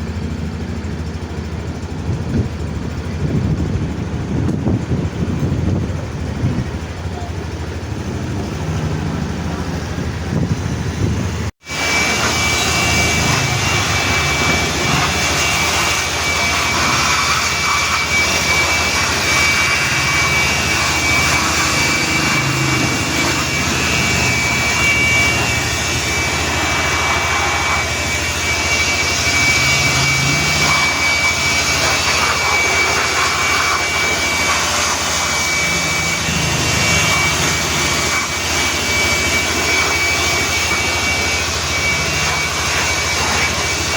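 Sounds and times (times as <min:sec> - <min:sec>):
car wash machinery rushing: 0:00.0 - 0:43.9
high whine: 0:00.0 - 0:43.9.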